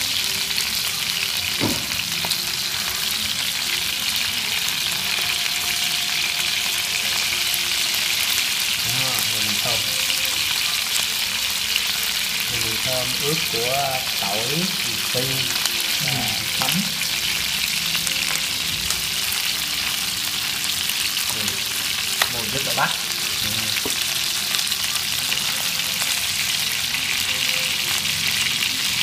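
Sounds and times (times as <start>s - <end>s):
meat sizzling in oil: 0.0s - 29.0s.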